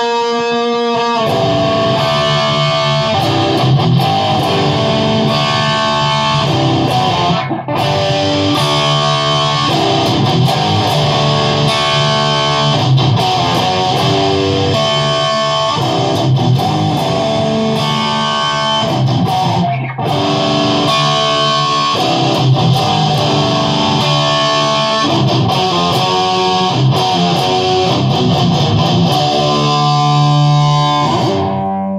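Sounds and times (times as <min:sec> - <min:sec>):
electric guitar playing fast riffs: 0:00.0 - 0:31.9.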